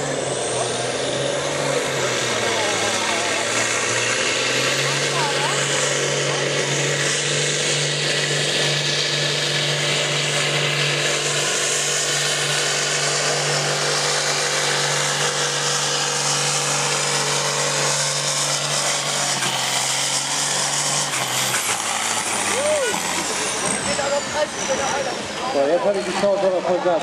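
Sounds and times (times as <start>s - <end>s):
tractor engine loud drone: 0.0s - 27.0s.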